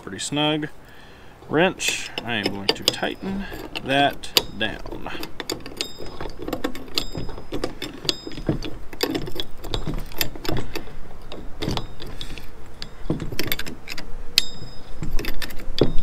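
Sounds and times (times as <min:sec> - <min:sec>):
wrench clicking on metal nut: 0:01.8 - 0:16.0.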